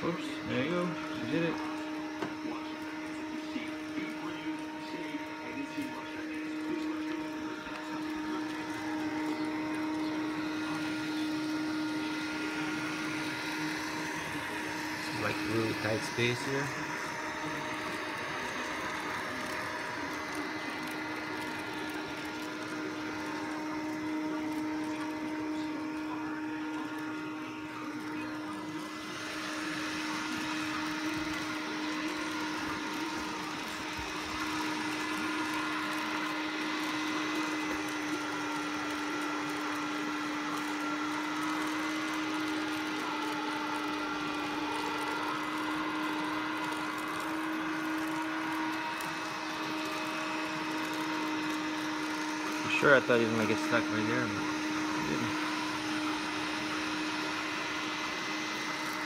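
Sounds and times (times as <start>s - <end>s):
robot vacuum motor hum and whine: 0.0s - 59.0s.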